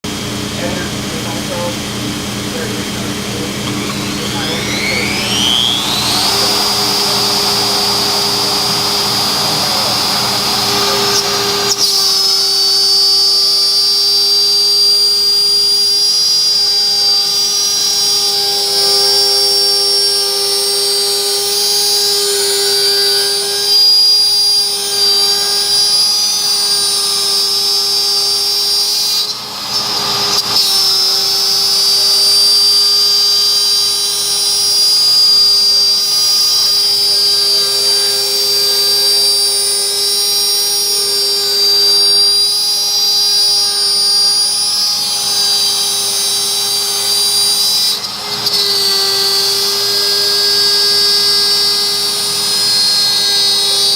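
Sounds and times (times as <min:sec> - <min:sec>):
router spindle whining cutting wood: 0:00.0 - 0:53.9.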